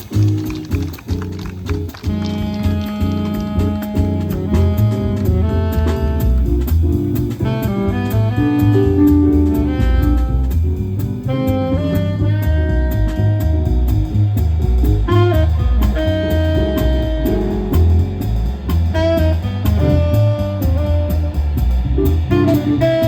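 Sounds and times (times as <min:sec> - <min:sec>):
bass line: 0:00.0 - 0:23.0
keyboard: 0:00.0 - 0:23.0
saxophone melody: 0:01.8 - 0:14.2, 0:15.0 - 0:23.0.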